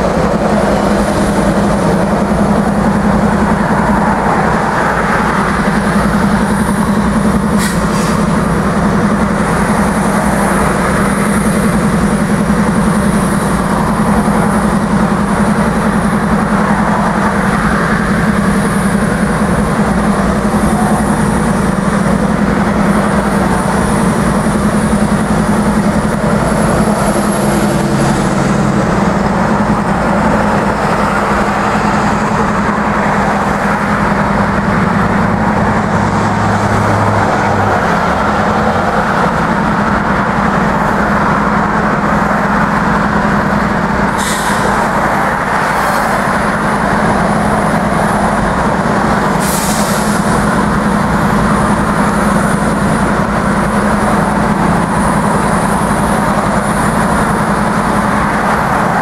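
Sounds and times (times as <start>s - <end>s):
diesel locomotive engine drone: 0.0s - 59.0s
wheel and rail noise: 0.0s - 59.0s.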